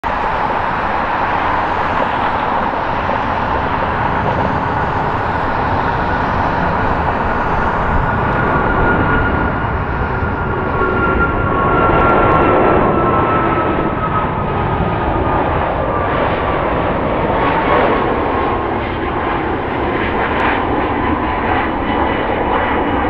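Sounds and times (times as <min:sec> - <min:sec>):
high engine whine: 0:00.0 - 0:23.0
jet engines rushing at takeoff: 0:00.0 - 0:23.0.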